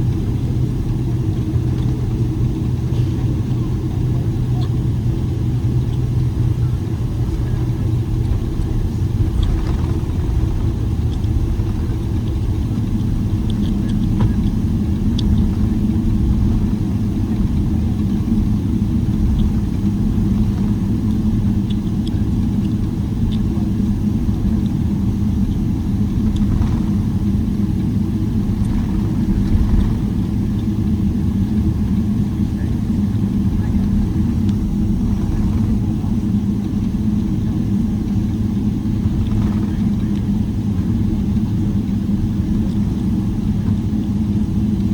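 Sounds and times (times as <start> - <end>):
faint rattles and ticks: 0.0 - 44.9
low cabin engine rumble: 0.0 - 44.9.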